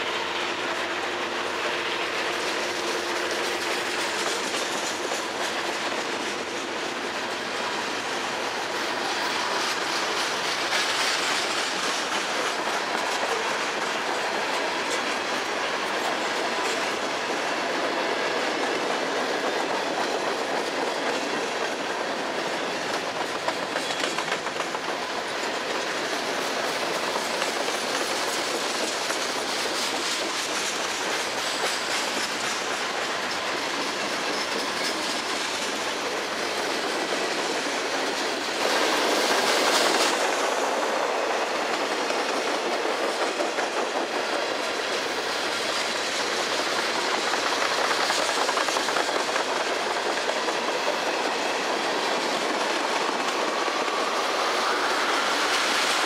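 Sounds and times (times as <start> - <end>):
train wheels rumbling on rail: 0.0 - 56.0
wheel clacks over rail joints: 0.6 - 56.0.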